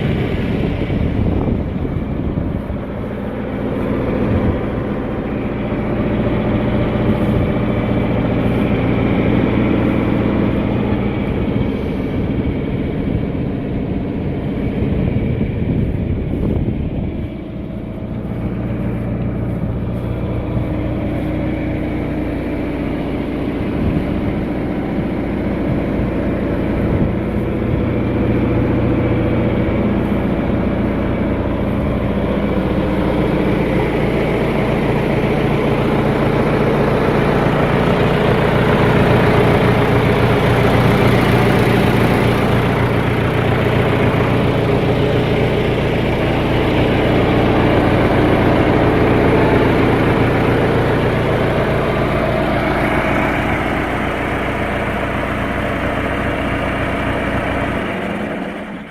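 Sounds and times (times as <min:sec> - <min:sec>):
backhoe engine running: 0:00.0 - 0:58.9.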